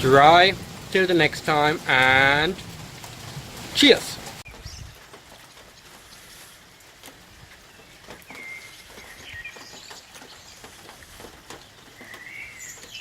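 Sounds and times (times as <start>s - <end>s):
light rain falling: 0.0s - 13.0s
water drips: 0.0s - 13.0s.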